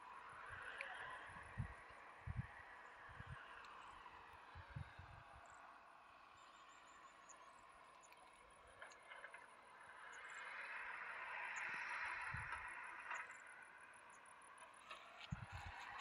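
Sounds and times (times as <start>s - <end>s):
insects chirping: 0.1s - 16.0s.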